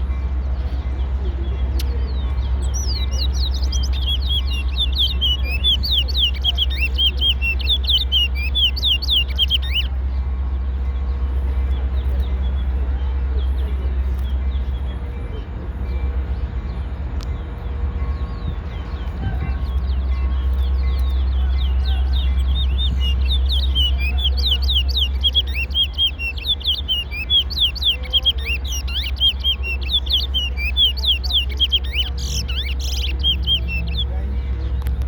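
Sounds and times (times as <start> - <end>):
finch singing rapid chirps: 0.0 - 10.0, 11.6 - 35.0
steady low rumble: 0.0 - 35.0.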